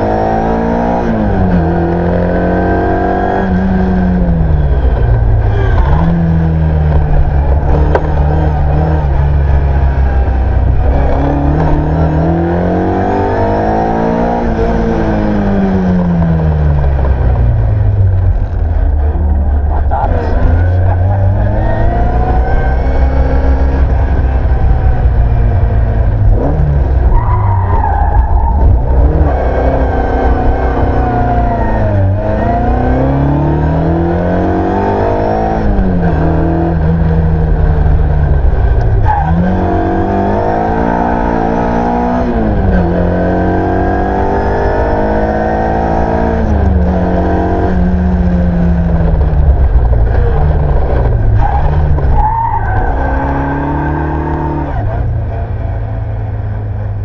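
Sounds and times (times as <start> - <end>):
rally car engine revving through gears: 0.0 - 57.0.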